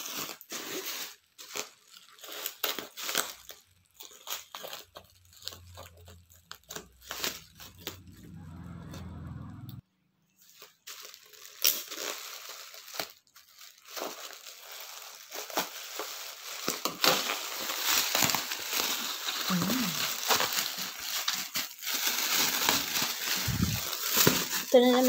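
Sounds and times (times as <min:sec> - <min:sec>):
bubble wrap crinkling: 0:00.0 - 0:08.6, 0:10.4 - 0:25.0.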